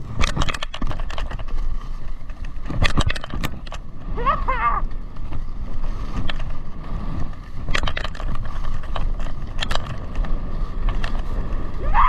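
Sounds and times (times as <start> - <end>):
ski scrapes and clacks: 0.0 - 11.8
wind buffeting the microphone: 0.0 - 12.0
skis running on snow: 0.8 - 2.8, 3.4 - 12.0.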